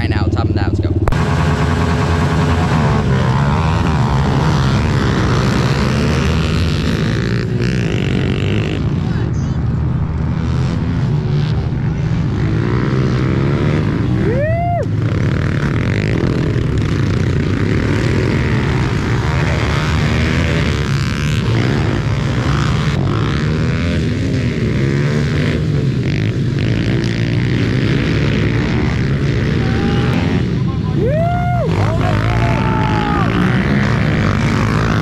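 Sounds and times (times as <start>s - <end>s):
pit bike engines revving: 0.0s - 35.0s.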